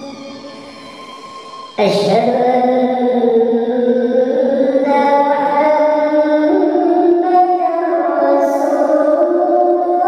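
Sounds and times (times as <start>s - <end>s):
person chanting: 1.7s - 10.0s.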